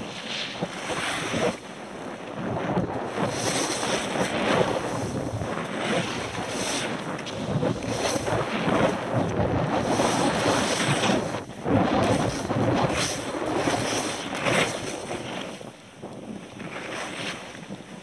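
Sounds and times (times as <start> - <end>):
skis scraping over snow: 0.0 - 18.0
wind buffeting microphone: 0.0 - 18.0.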